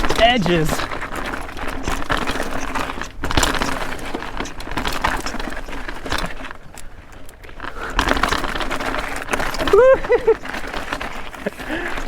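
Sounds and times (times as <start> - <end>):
bike rattling: 0.0 - 12.0
tyres grinding over rock: 0.0 - 12.0.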